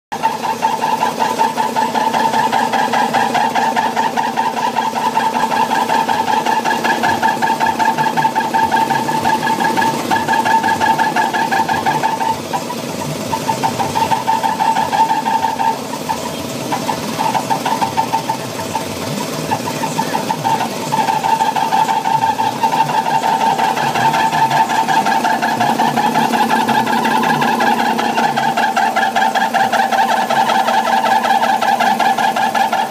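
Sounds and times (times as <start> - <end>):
air compressor clattering: 0.1 - 32.9.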